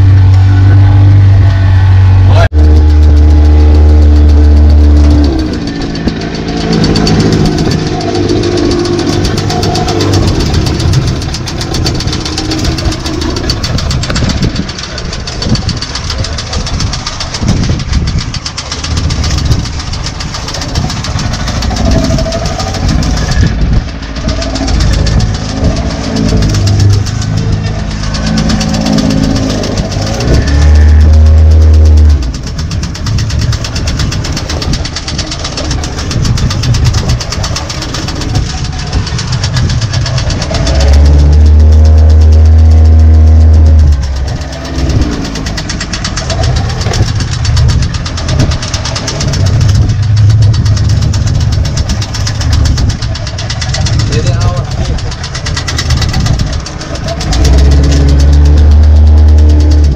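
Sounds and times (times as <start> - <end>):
boat motor running: 0.0 - 59.9
loud steady low drone: 0.0 - 59.9
wind and water noise: 0.0 - 59.9.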